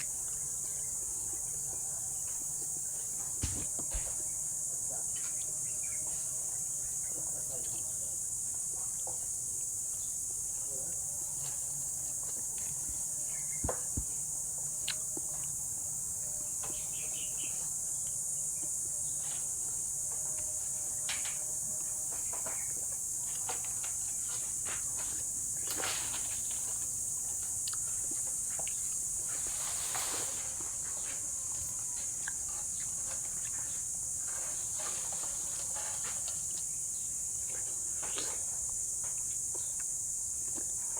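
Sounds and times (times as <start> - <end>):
insects chirping chorus: 0.0 - 40.9.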